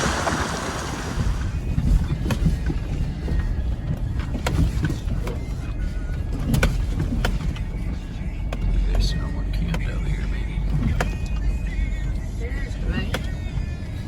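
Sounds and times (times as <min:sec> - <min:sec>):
car driving on dirt road: 0:00.0 - 0:14.0.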